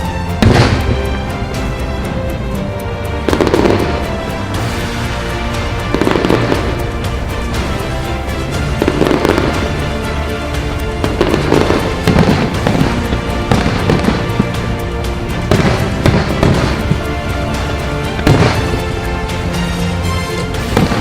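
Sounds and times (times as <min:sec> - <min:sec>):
fireworks bangs: 0:00.0 - 0:21.0
music playing: 0:00.0 - 0:21.0.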